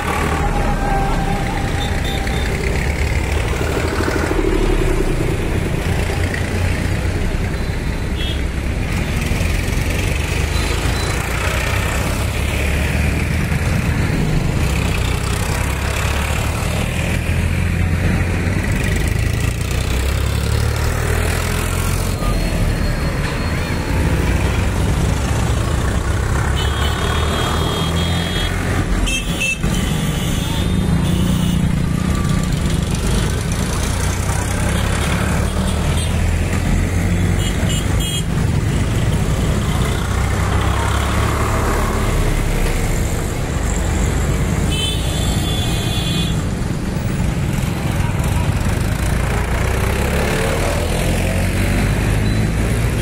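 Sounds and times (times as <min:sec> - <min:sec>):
tractors driving past: 0:00.0 - 0:53.0.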